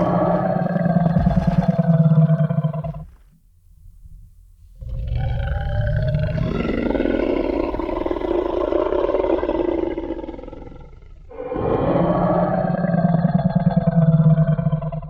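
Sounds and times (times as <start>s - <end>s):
deep growling roar: 0.0s - 3.2s, 4.8s - 15.0s.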